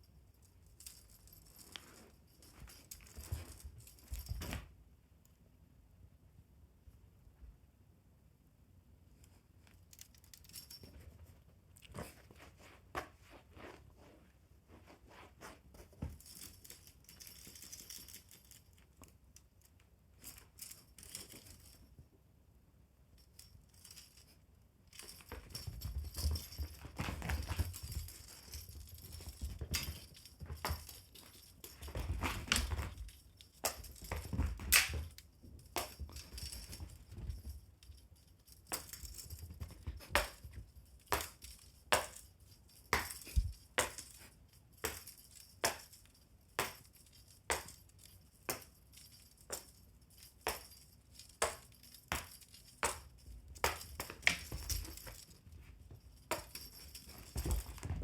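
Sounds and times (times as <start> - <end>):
toy rustling and crinkling: 0.0 - 4.8, 9.1 - 22.0, 23.2 - 58.0.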